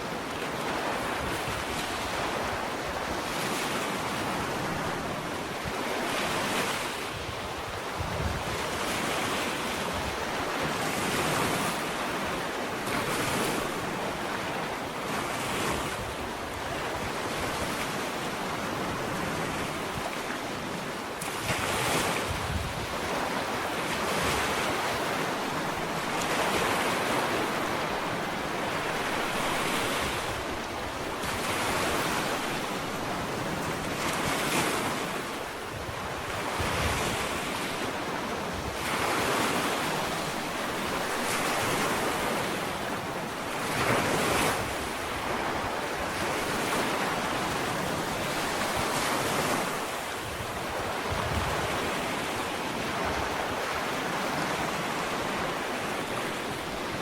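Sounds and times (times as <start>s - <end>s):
ocean waves breaking on beach: 0.0s - 57.0s
wind on microphone: 0.0s - 57.0s.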